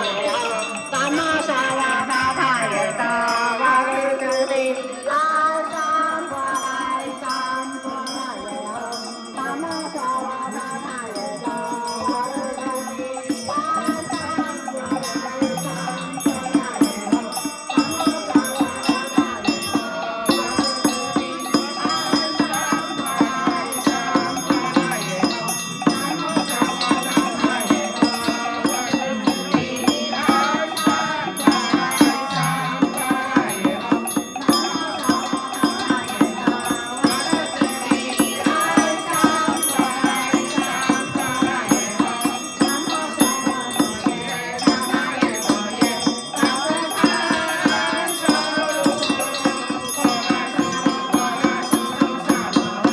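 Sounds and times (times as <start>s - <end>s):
bells ringing: 0.0s - 52.9s
group chanting: 0.0s - 52.9s
struck percussion beat: 7.8s - 52.9s.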